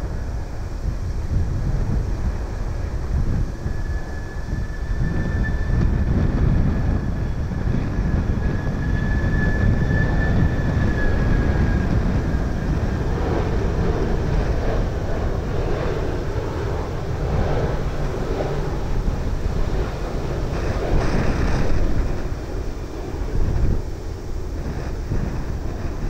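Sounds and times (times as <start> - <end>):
jet engines low rumble: 0.0 - 26.0
thin high whine: 0.0 - 26.0.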